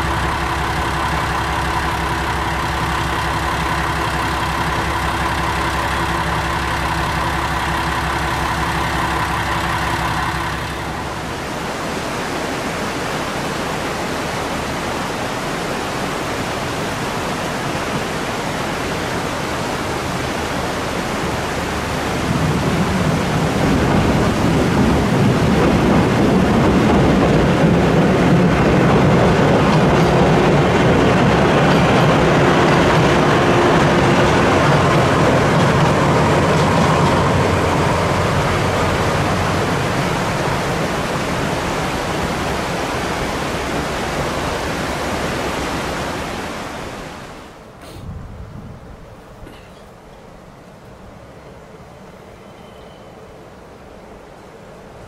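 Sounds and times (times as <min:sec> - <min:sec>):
rocky stream rushing: 0:00.0 - 0:47.8
train crossing a steel bridge: 0:00.0 - 0:55.0.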